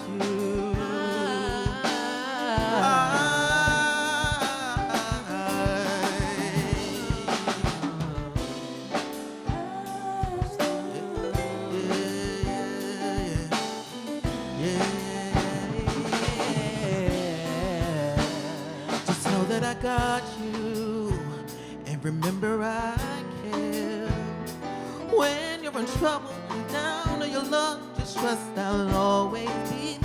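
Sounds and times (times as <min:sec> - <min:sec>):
steady drum beat: 0:00.0 - 0:30.0.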